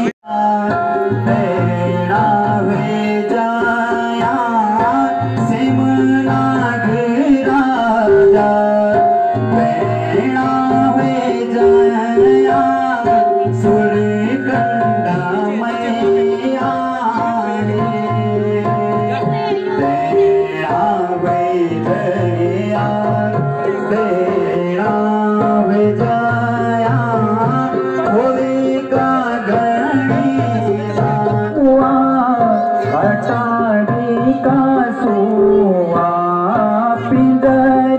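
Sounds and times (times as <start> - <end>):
harmonium: 0.0 - 37.9
man singing: 0.0 - 37.9
tabla: 0.0 - 37.9.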